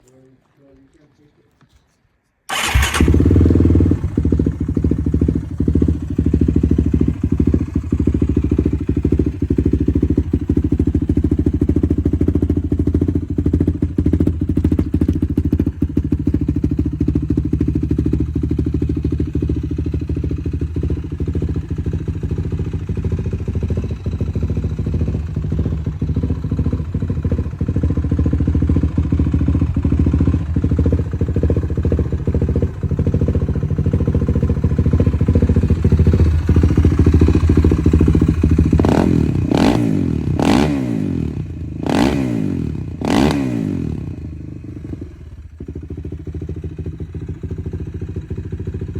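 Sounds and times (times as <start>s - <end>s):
quad bike engine idling: 2.5s - 48.9s.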